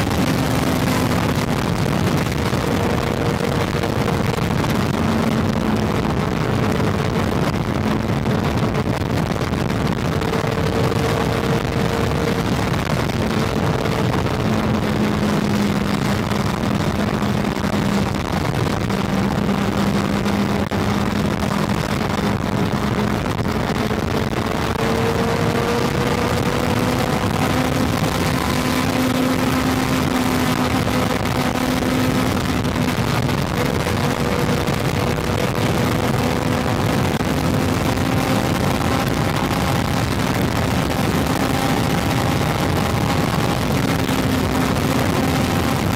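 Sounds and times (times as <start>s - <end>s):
motorcycle engine cruising: 0.0s - 45.9s
wind and road noise: 0.0s - 45.9s.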